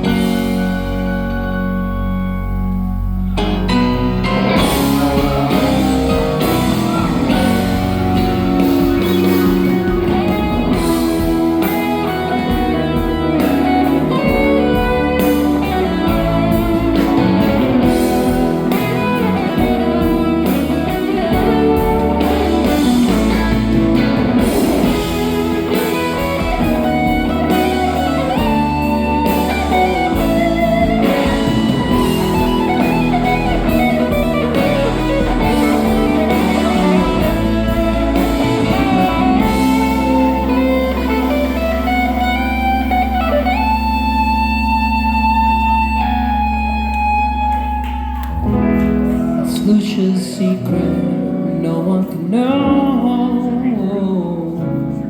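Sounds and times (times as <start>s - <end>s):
fast electric guitar part: 0.0s - 49.7s
live rock band playing: 0.0s - 55.0s.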